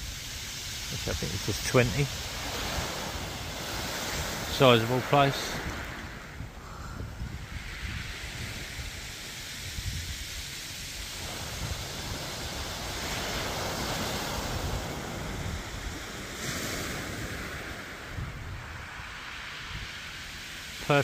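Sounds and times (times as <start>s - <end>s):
wind buffeting microphone: 0.0s - 20.8s.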